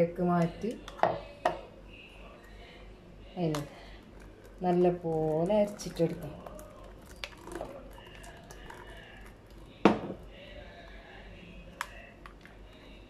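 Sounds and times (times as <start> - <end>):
spoon working juice through sieve: 0.4 - 13.0.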